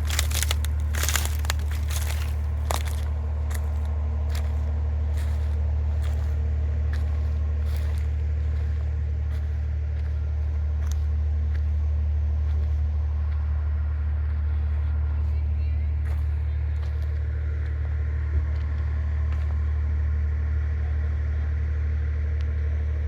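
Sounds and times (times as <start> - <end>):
car interior driving drone: 0.0 - 23.0.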